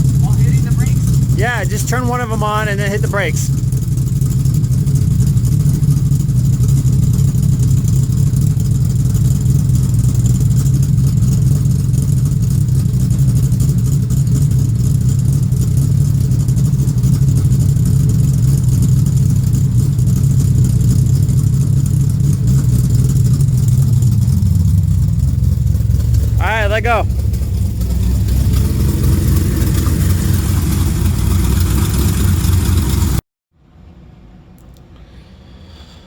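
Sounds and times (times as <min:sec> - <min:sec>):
low mechanical drone: 0:00.0 - 0:36.0.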